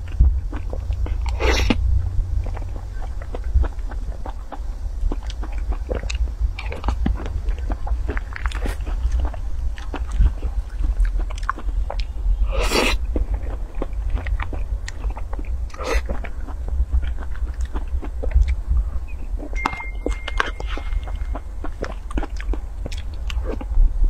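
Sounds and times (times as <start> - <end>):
wet chewing and lip smacks: 0.0 - 1.8, 2.4 - 23.8
steady low hum: 0.0 - 24.0.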